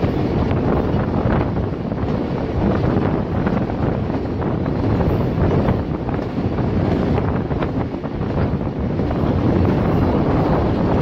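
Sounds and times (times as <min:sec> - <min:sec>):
train low rumble: 0:00.0 - 0:11.0
wind buffeting microphone: 0:00.0 - 0:11.0.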